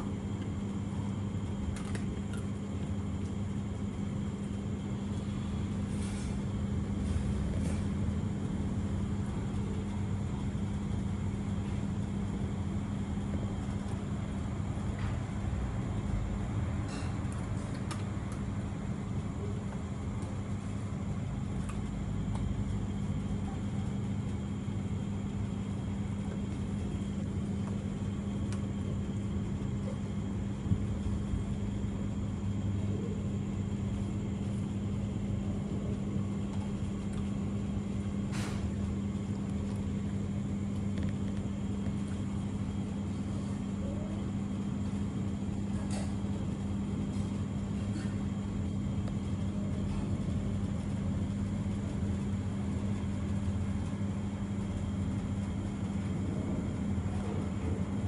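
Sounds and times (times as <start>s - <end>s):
low machine hum with rumble: 0.0s - 58.0s.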